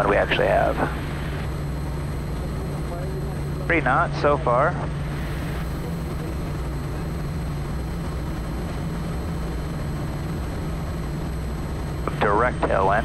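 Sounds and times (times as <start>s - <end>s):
turboprop engine drone: 0.0s - 13.0s.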